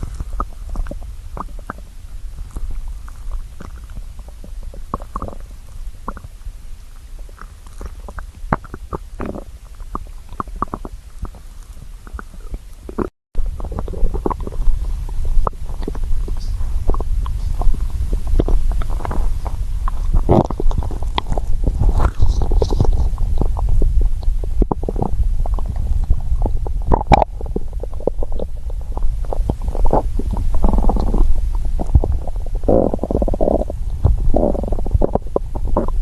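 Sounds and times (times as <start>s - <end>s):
stomach growling and gurgling: 0.0s - 36.0s.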